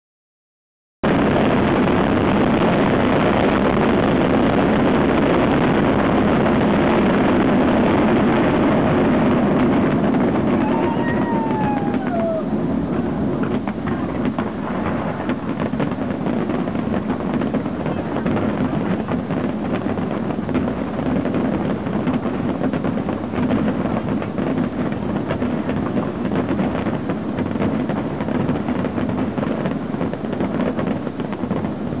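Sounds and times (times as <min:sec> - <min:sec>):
distant fireworks rumble: 0:01.0 - 0:32.0
fireworks crackle: 0:01.0 - 0:32.0.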